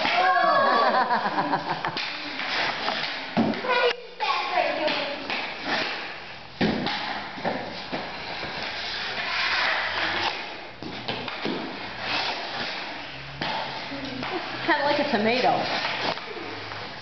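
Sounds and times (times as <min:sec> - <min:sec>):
hockey sticks scraping concrete: 0:01.4 - 0:17.0.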